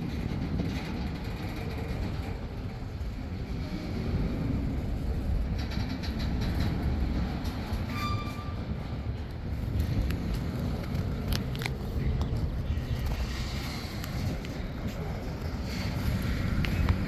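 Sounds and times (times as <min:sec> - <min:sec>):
train rattling: 0:00.0 - 0:17.0
train rumbling past: 0:00.0 - 0:17.0.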